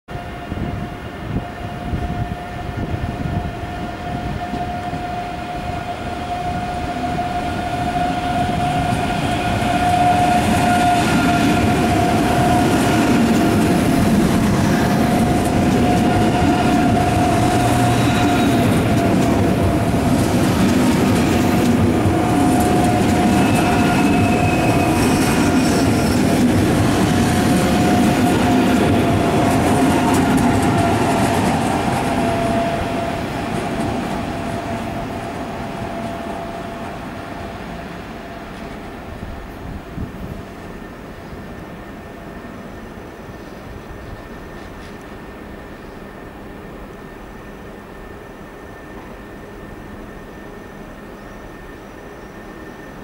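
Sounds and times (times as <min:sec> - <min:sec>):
electric train whine: 0:00.1 - 0:53.0
train running noise: 0:00.1 - 0:53.0.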